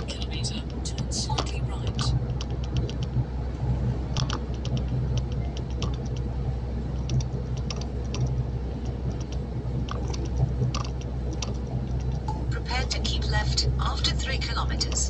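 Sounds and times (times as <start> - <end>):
light clicking and rattling: 0.0 - 3.2, 4.1 - 6.3, 6.9 - 13.6
truck engine droning: 0.0 - 15.0.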